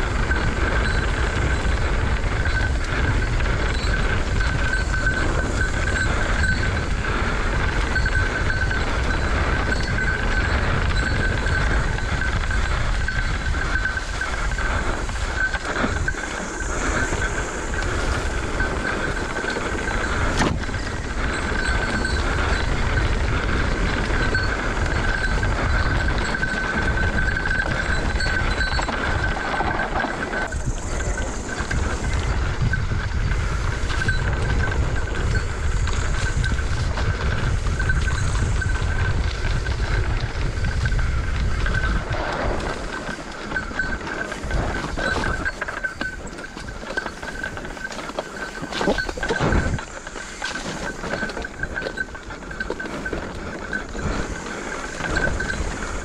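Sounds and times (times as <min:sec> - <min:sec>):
bike tyres rumbling on dirt: 0:00.0 - 0:56.0.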